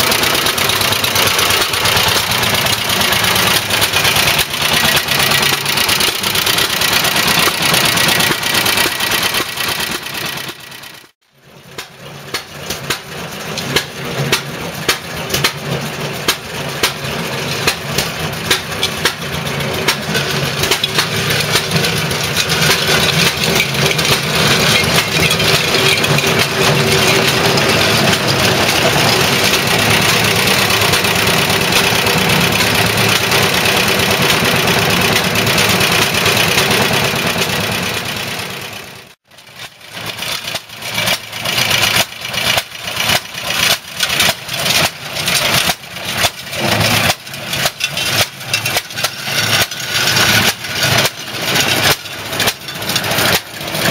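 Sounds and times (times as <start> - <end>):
mower engine running: 0.0 - 53.9.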